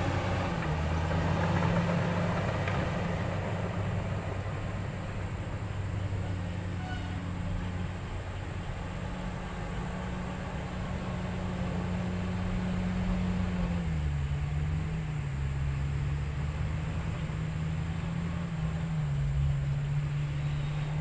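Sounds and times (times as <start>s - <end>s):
truck diesel engine labouring: 0.0s - 21.0s.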